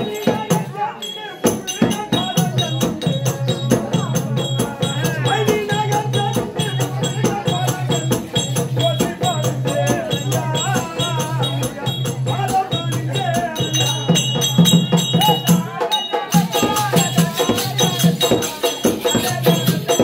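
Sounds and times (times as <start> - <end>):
percussion strokes: 0.0 - 20.0.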